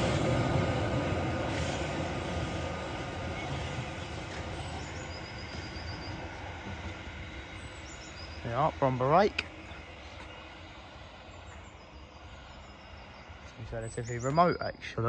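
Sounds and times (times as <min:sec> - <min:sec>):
electric train rumble and wheel noise: 0:00.0 - 0:15.0.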